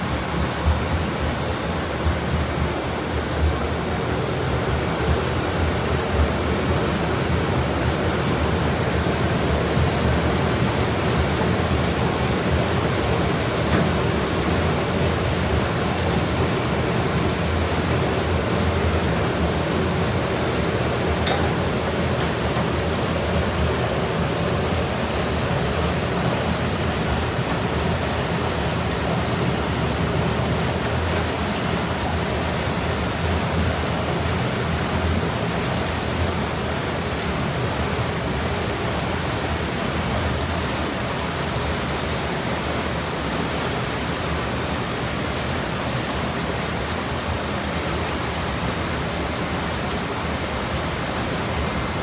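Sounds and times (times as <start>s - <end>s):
fast water rushing through metal grate: 0.0s - 52.0s.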